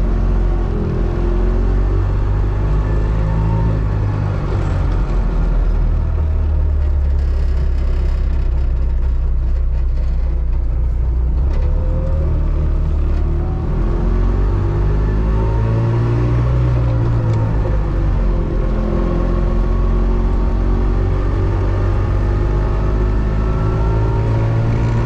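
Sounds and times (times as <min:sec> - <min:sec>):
two-stroke car engine accelerating: 0:00.0 - 0:25.0.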